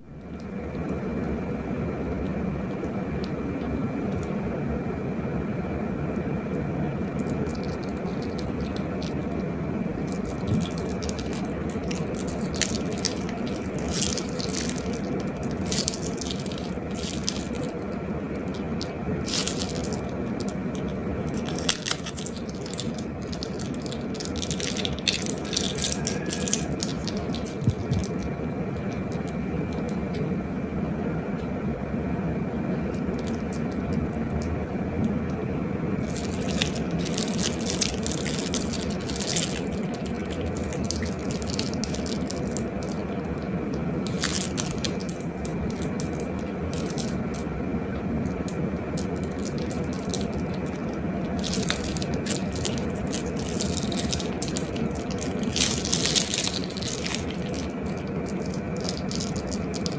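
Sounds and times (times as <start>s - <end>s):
low hum: 0.0s - 59.9s
slime crackling and squishing: 7.0s - 30.2s, 33.0s - 34.5s, 36.0s - 59.9s.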